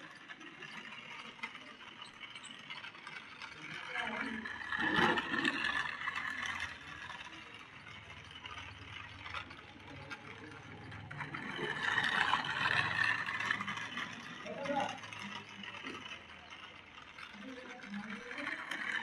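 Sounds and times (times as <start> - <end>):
plastic gears and wheels rattling: 0.0 - 19.0
toy car motor whirring: 0.0 - 19.0.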